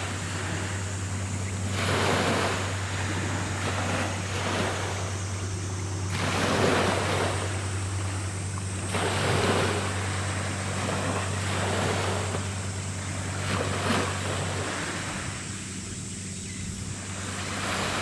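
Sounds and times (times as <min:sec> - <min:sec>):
sea water washing: 0:00.0 - 0:18.0
steady low drone: 0:00.0 - 0:18.0.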